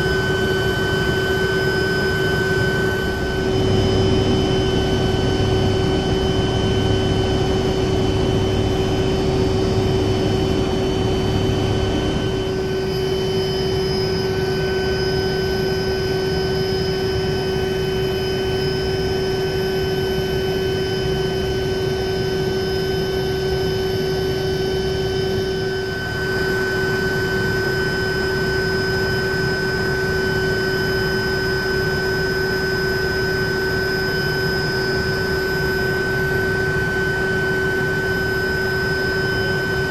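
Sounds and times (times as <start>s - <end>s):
helicopter turbine and rotors: 0.0s - 39.9s.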